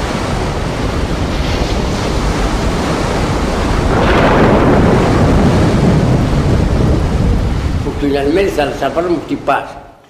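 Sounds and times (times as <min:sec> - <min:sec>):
wind rushing: 0:00.0 - 0:09.6
waves breaking: 0:00.0 - 0:10.0.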